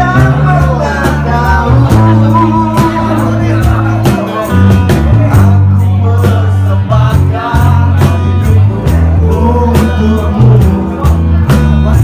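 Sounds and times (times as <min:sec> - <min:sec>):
person singing: 0:00.0 - 0:12.0
romantic pop song with band: 0:00.0 - 0:12.0.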